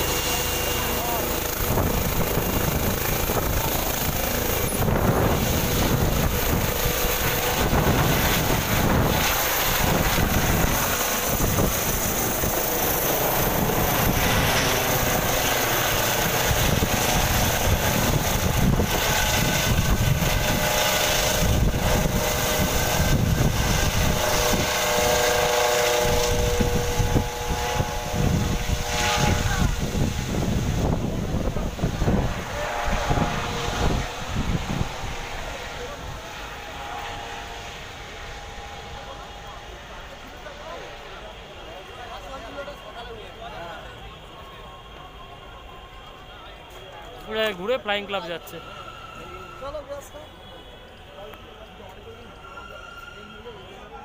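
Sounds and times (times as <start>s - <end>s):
helicopter rotor and engine: 0.0s - 54.0s
helicopter whine: 0.0s - 54.0s.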